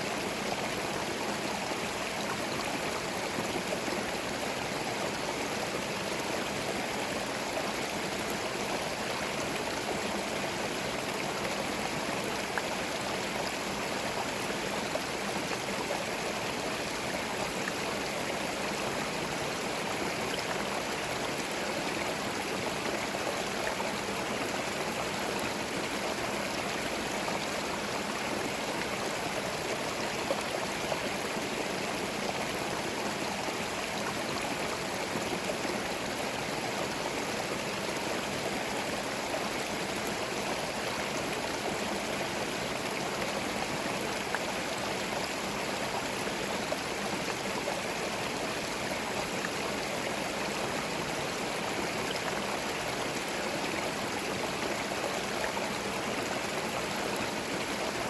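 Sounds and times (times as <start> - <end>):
stream running over stones: 0.0 - 58.0.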